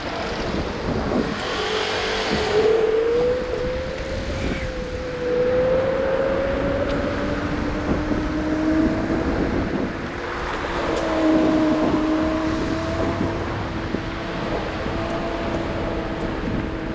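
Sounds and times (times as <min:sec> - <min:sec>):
electric scooter motor whine: 0:00.0 - 0:16.9
road rumble: 0:00.0 - 0:16.9
wind on microphone: 0:00.0 - 0:16.9.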